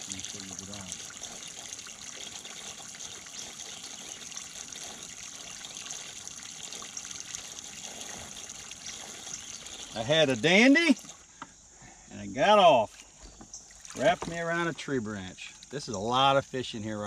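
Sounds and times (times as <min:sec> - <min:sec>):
water trickling: 0:00.0 - 0:11.4, 0:12.5 - 0:16.2.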